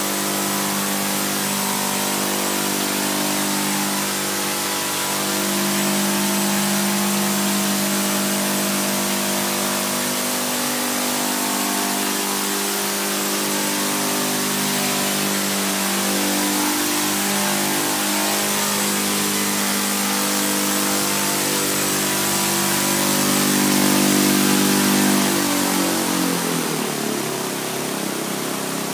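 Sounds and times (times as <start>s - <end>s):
loud engine and rotor drone: 0.0s - 28.9s.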